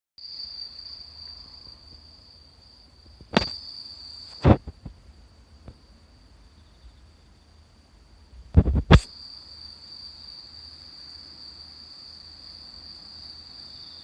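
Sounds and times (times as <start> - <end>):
high insect trill: 0.2 - 14.0.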